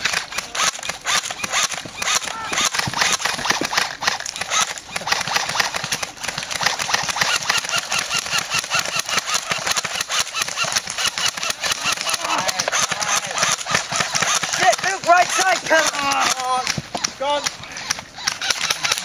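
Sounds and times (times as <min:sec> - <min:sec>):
airsoft guns firing rapid bursts: 0:00.0 - 0:19.0.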